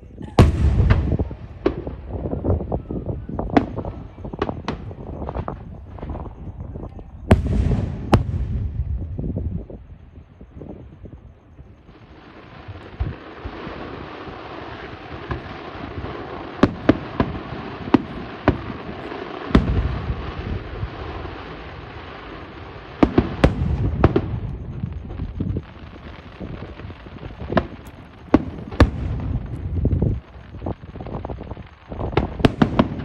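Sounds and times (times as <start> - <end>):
fireworks booming reports: 0.0 - 33.0
fireworks crackling and hissing: 0.0 - 33.0.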